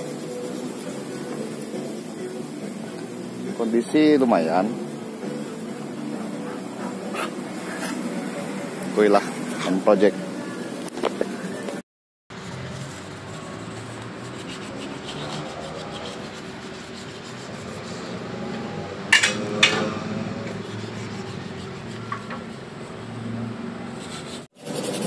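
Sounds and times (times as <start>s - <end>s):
sandpaper rubbing on metal: 0.0s - 10.1s, 12.3s - 18.5s, 20.3s - 23.2s, 23.9s - 25.0s.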